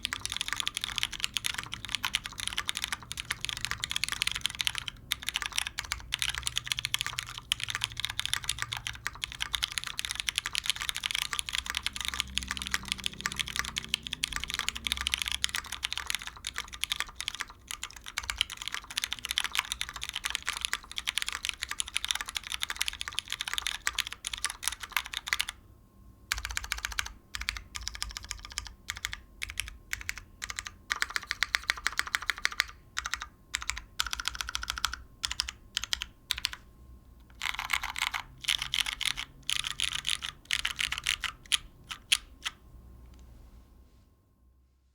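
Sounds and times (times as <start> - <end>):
typing on mechanical keyboard: 0.0 - 25.6, 26.3 - 36.6, 37.2 - 42.6.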